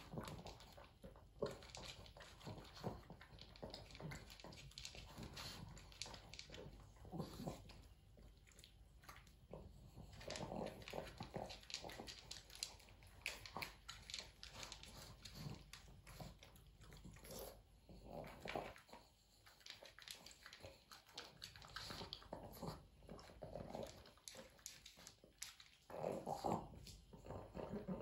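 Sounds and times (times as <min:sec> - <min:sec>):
dog crunching food: 0:00.0 - 0:28.0.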